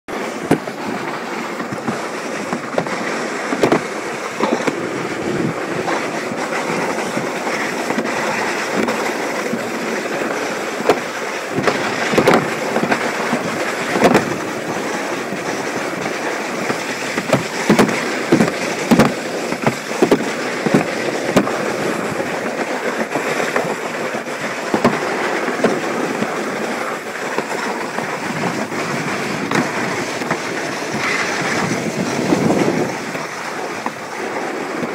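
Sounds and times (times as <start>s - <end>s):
sled rattling down track: 0.1s - 34.9s.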